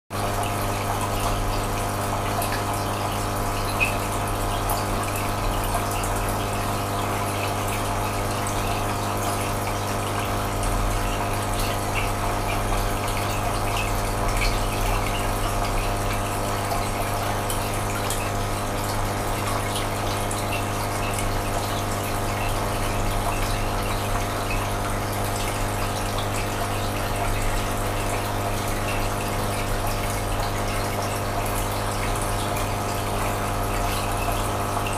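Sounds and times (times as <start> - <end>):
aquarium pump hum: 0.1 - 34.9
water rushing: 0.2 - 34.9.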